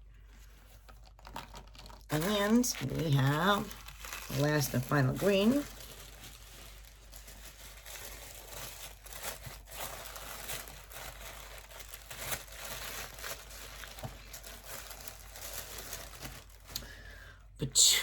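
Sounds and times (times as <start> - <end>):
wrapping crinkling and rustling: 0.0 - 17.5.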